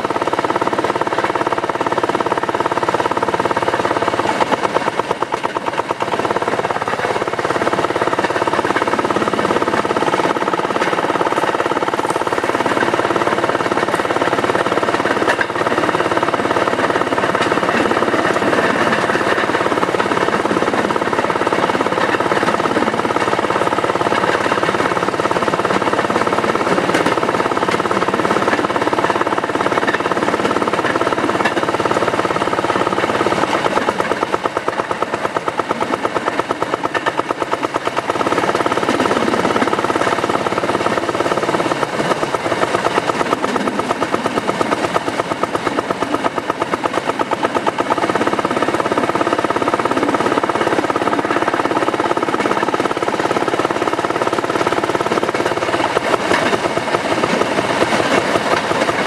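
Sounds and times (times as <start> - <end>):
rail car engine running: 0.0 - 59.0.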